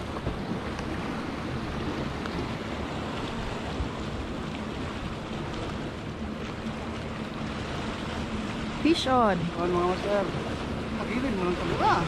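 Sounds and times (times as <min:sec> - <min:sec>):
sea washing at shore: 0:00.0 - 0:12.0.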